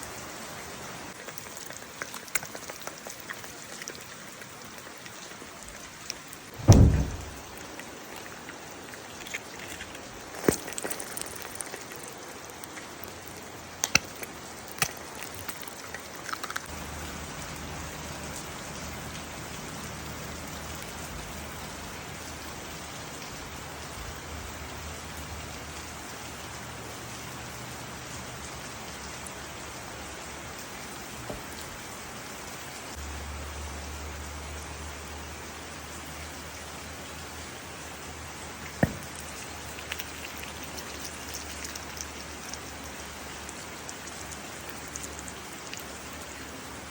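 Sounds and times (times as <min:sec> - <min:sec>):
steady rain falling: 0:00.0 - 0:02.1, 0:02.8 - 0:15.8, 0:16.7 - 0:46.9.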